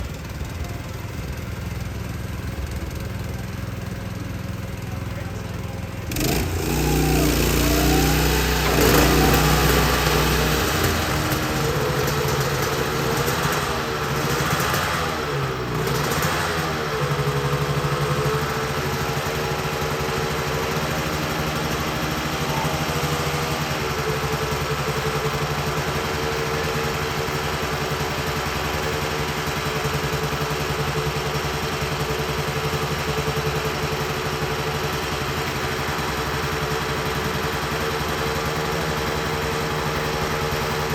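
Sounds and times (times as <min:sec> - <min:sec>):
two-stroke motorcycle engine idling: 0:00.0 - 0:40.9.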